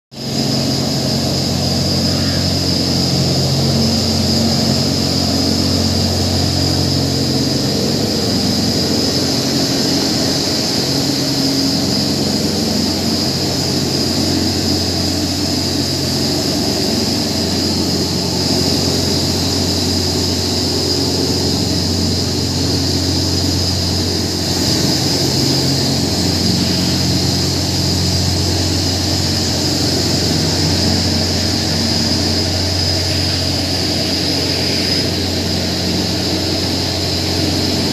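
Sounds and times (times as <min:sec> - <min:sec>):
centrifuge humming with high whine: 0:00.2 - 0:37.9.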